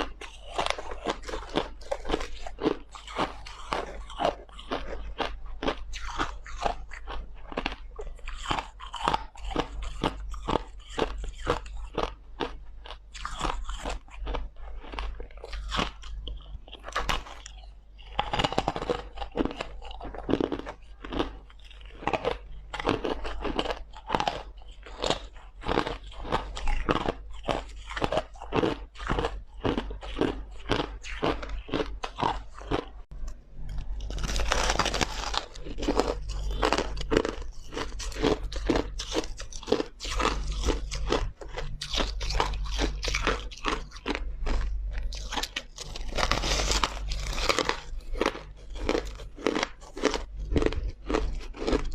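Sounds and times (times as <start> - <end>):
ice crunching while chewed: 0.0 - 51.9.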